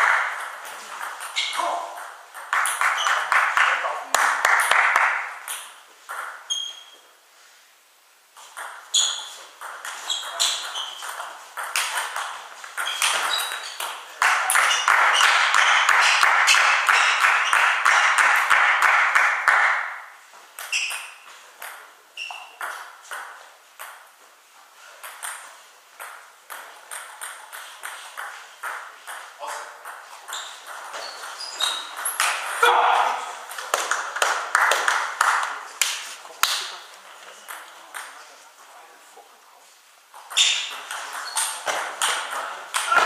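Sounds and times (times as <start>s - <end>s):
table tennis ball hits: 0.0s - 6.9s, 8.5s - 24.1s, 25.0s - 36.8s, 40.1s - 43.0s.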